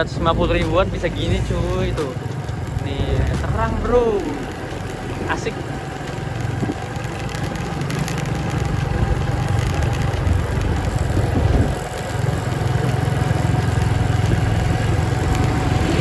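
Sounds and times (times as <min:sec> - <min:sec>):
road noise: 0:00.0 - 0:16.0
small motorcycle engine running: 0:00.0 - 0:16.0.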